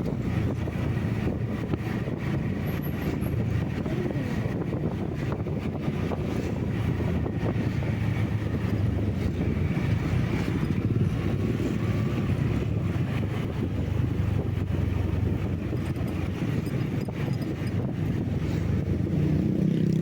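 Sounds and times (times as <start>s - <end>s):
road vehicle engine and tyres droning: 0.0s - 20.0s
wind buffeting microphone: 0.0s - 20.0s.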